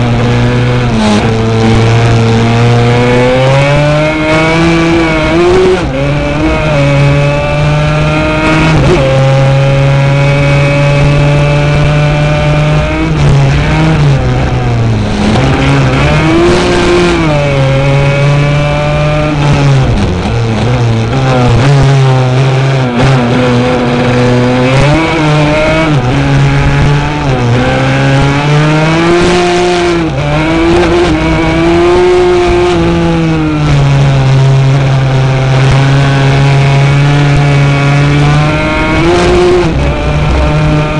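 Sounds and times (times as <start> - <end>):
quad engine revving high: 0.0 - 40.9.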